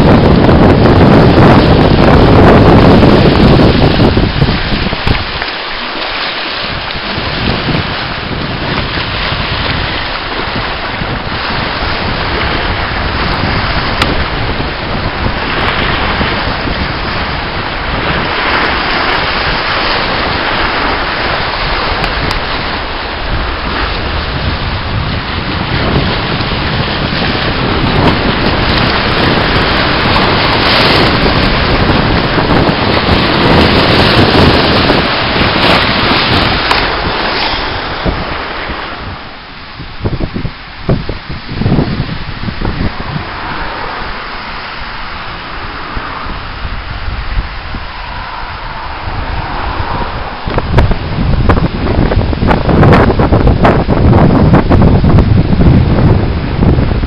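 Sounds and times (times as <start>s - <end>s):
sea waves breaking on rocks: 0.0s - 57.0s
wind buffeting microphone: 0.0s - 57.0s.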